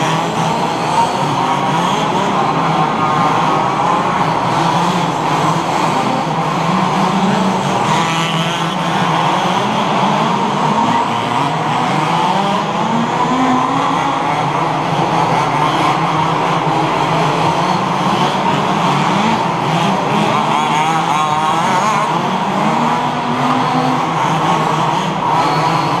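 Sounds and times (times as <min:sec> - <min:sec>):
small two-stroke engines revving: 0:00.0 - 0:26.0.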